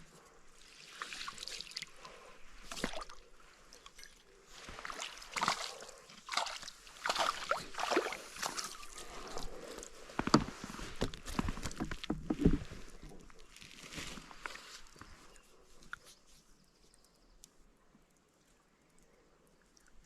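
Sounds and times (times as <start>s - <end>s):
water splashing and sloshing: 0.0s - 16.1s.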